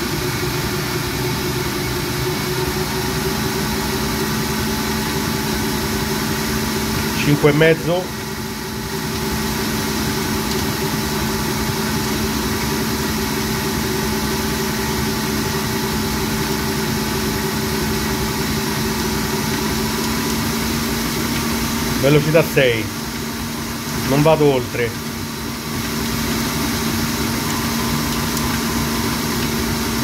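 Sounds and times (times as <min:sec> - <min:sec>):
stand mixer motor humming: 0:00.0 - 0:30.0.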